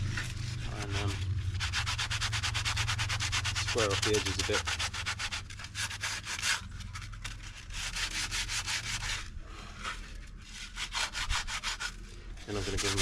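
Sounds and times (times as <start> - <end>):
sanding filler: 0.0 - 6.6, 7.8 - 9.2, 10.5 - 13.0.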